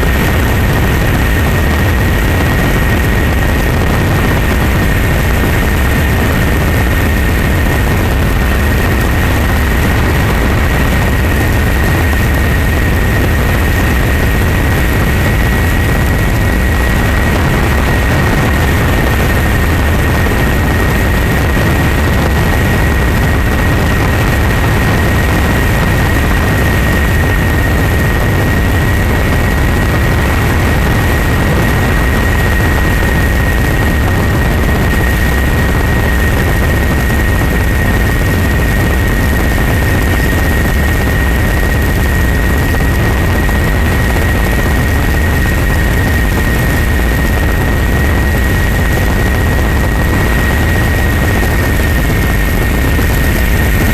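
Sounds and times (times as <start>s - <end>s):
engine drone with whine: 0.0s - 53.9s.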